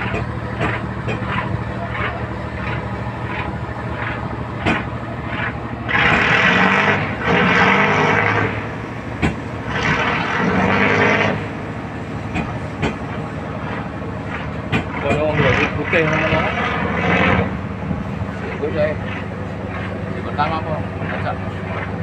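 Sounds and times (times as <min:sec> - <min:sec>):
boat diesel engine revving: 0:00.0 - 0:22.0.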